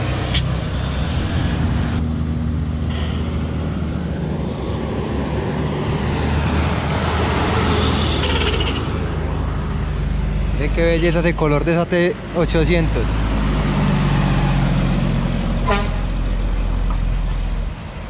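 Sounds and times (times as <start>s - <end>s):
diesel truck engines passing: 0.0s - 18.0s.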